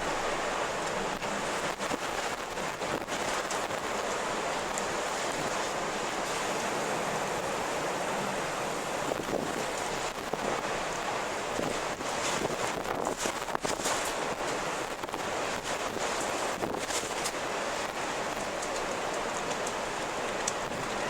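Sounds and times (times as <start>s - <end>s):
rushing wind: 0.0s - 21.0s.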